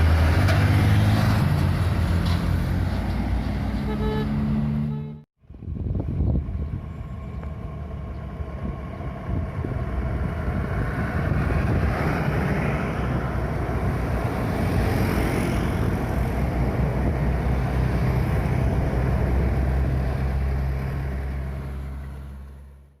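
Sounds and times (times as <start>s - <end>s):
heavy vehicle engine droning: 0.0s - 23.0s
road noise: 0.0s - 23.0s.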